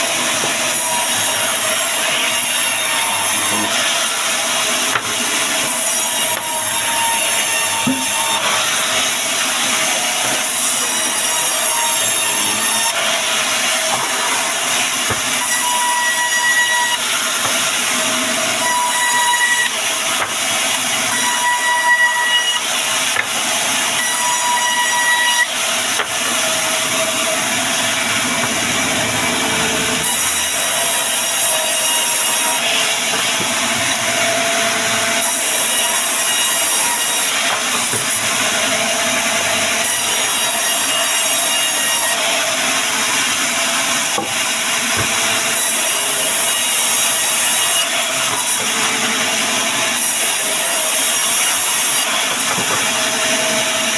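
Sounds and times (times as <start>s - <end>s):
band saw cutting log: 0.0s - 53.9s.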